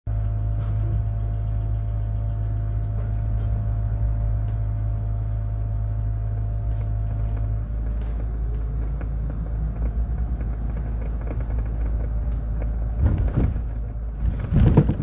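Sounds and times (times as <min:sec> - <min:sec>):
electric bus humming: 0:00.1 - 0:15.0.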